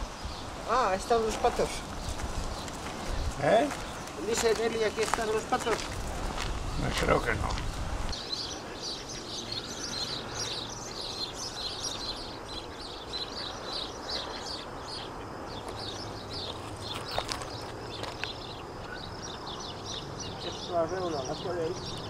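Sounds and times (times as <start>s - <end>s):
flock of birds chirping: 0.0s - 22.0s.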